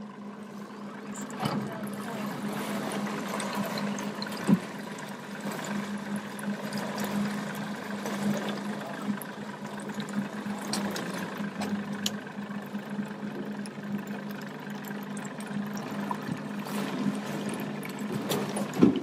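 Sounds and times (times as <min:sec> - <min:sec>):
boat motor running: 0:00.0 - 0:19.0
water rushing along hull: 0:00.0 - 0:19.0.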